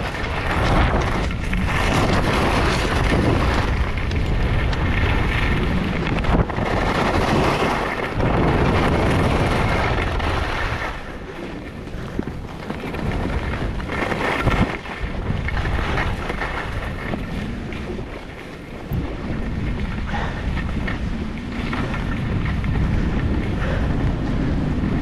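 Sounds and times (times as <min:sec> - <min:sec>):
skis scraping over snow: 0:00.0 - 0:25.0
wind rushing over microphone: 0:00.0 - 0:25.0.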